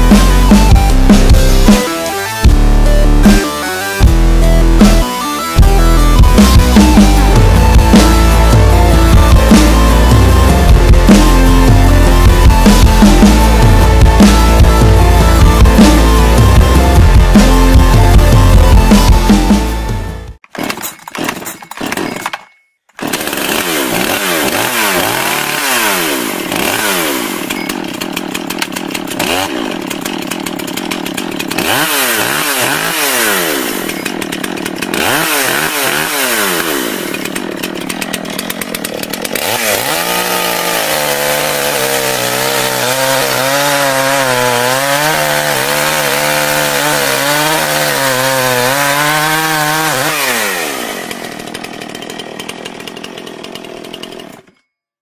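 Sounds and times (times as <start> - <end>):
chainsaw revving: 0.0 - 22.4, 23.0 - 54.6.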